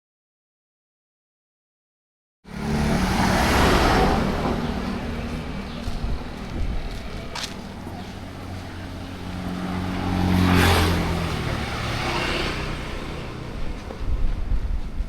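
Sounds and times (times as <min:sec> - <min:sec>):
vehicle engine passing by: 0:02.5 - 0:14.8.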